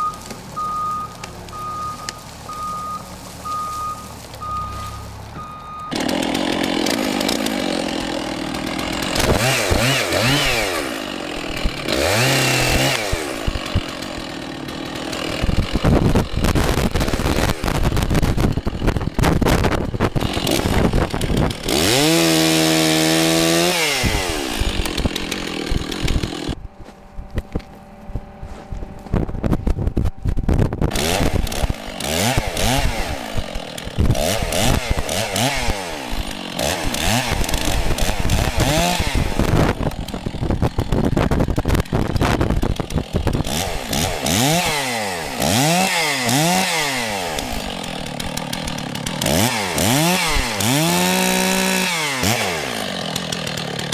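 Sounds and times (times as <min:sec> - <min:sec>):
chainsaw revving and cutting: 0:05.8 - 0:26.7, 0:30.9 - 0:53.9.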